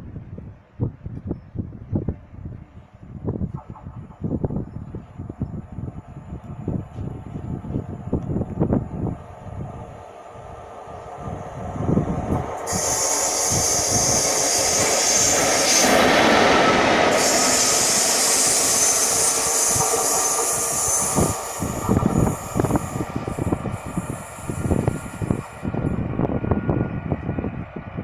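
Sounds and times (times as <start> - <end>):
wind buffeting microphone: 0.0 - 28.0
train running noise: 1.9 - 28.0.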